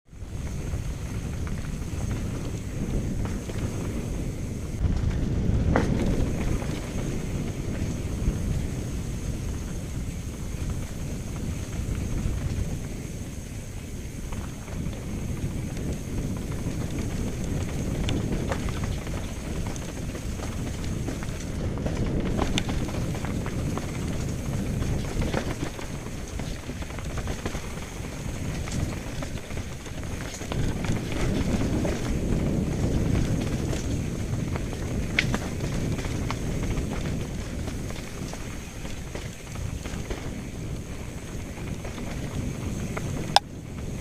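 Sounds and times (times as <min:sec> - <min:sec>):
bike tyres rumbling over stones: 0:00.1 - 0:44.0
wind on microphone: 0:00.1 - 0:44.0.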